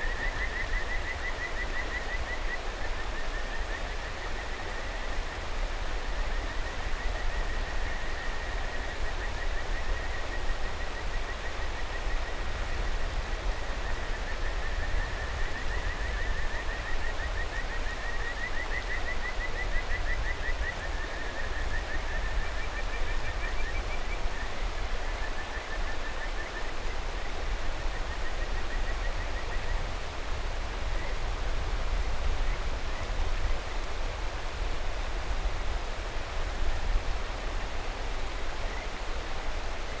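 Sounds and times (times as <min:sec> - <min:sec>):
river rushing: 0:00.0 - 0:40.0.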